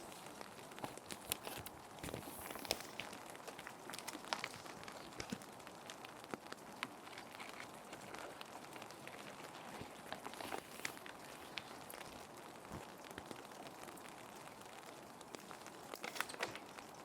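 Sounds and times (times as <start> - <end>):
plastic sheets rustling: 0.0 - 13.6, 15.2 - 17.0
rain hissing: 0.0 - 17.0.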